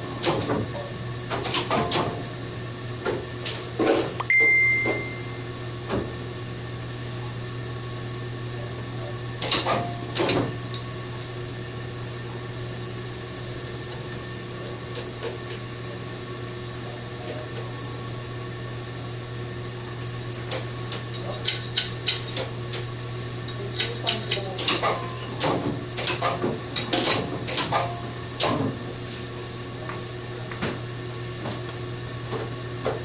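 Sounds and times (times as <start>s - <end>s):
printing press humming: 0.0s - 33.0s.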